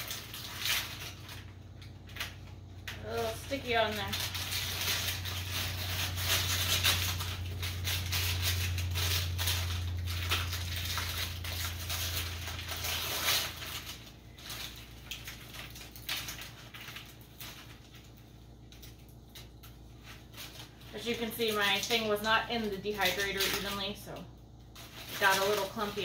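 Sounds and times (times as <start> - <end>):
low hum: 0.0 - 26.0
parchment paper crinkling: 0.0 - 26.0.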